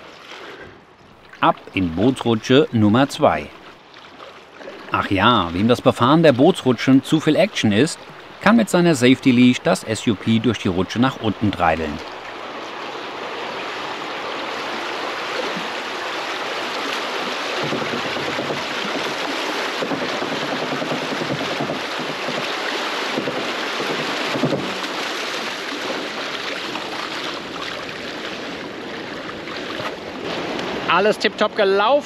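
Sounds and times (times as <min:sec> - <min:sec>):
water rushing under a paddleboard: 0:00.0 - 0:32.0.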